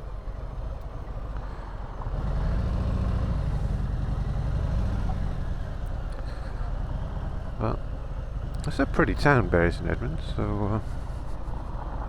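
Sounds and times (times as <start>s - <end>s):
motorcycle engine: 0.1s - 11.7s.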